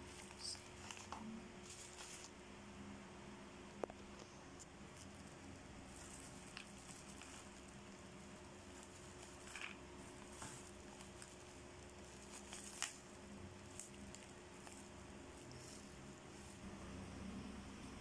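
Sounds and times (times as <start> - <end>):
bubble wrap crinkling and crackling: 0.0 - 2.4, 3.7 - 16.7
low steady hum: 0.0 - 18.0.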